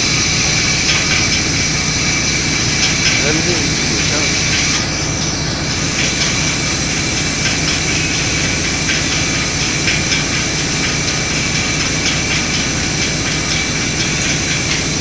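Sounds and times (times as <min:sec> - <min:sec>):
high whine: 0:00.0 - 0:15.0
industrial machinery running: 0:00.0 - 0:15.0.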